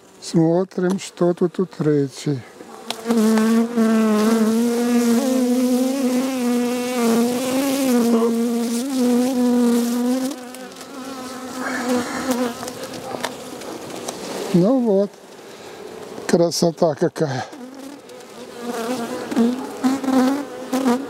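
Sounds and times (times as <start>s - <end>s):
honeybee buzzing: 2.5s - 16.4s, 17.3s - 21.0s.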